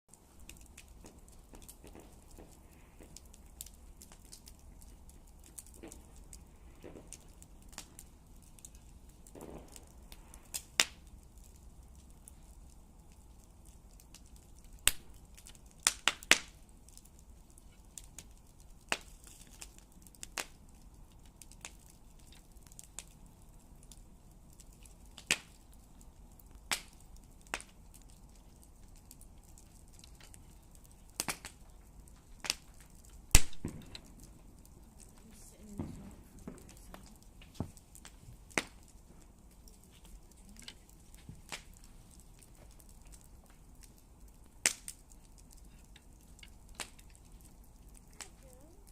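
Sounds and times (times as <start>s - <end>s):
campfire crackling and popping: 0.1s - 48.9s
faint low rumble: 0.1s - 48.9s.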